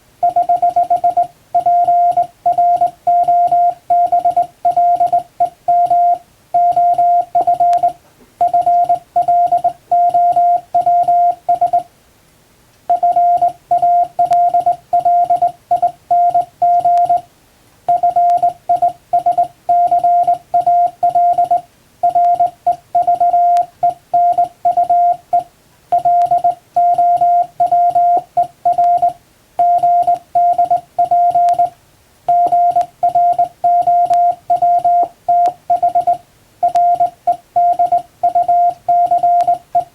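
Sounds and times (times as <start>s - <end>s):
morse code beeps: 0.2s - 11.9s, 12.9s - 17.3s, 17.9s - 39.9s.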